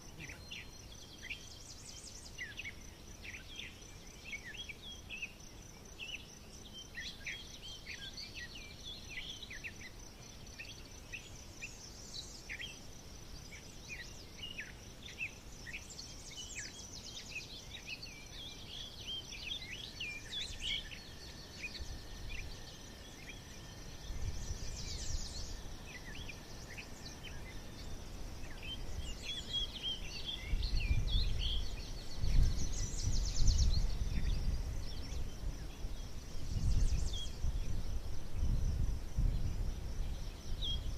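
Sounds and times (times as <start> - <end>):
high-pitched insect drone: 0.0 - 40.9
songbirds chirping and trilling: 0.0 - 40.9.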